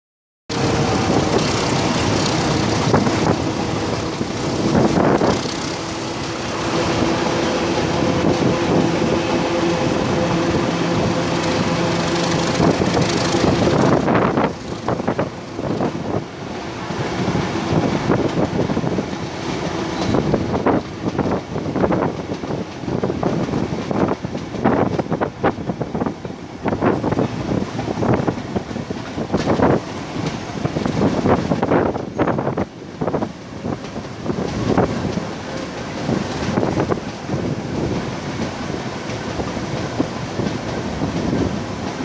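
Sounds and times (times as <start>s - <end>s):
train wheels on rails: 0.5s - 42.0s.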